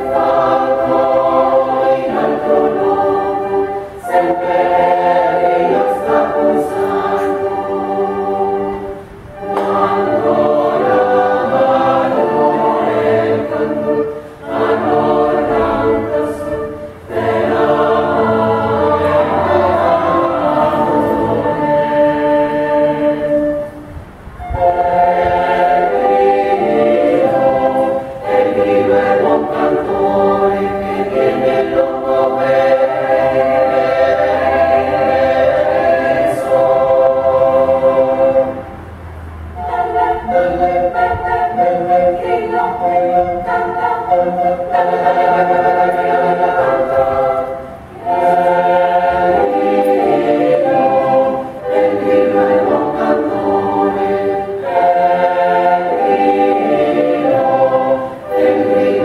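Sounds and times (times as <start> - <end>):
mixed choir singing: 0.0 - 59.0
recorders playing: 0.0 - 59.0.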